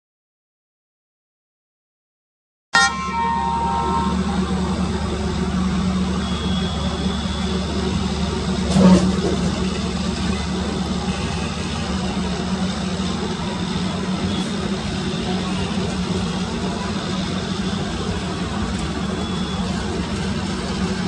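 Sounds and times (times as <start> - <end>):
train rumbling at speed: 2.8 - 21.0.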